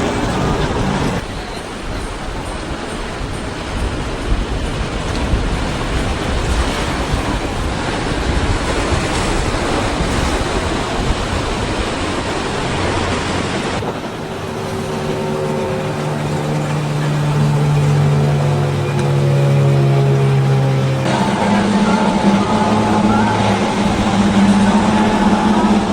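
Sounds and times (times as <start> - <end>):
powerboat engines droning: 0.0 - 25.9
surf washing: 0.0 - 25.9
wind buffeting microphone: 0.0 - 25.9.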